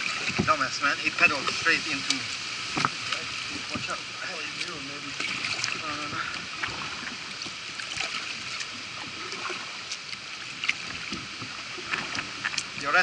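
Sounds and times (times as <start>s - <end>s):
moving water wash: 0.0s - 13.0s
paddle splashing in water: 0.0s - 13.0s.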